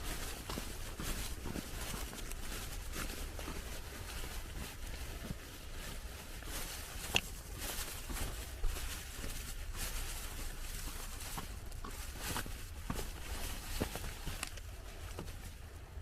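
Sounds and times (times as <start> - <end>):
footsteps crunching through snow: 0.0 - 16.0.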